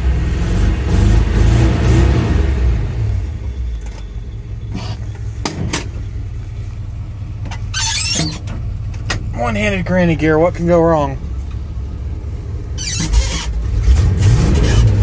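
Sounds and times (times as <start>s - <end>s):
car engine idling: 2.8s - 15.0s.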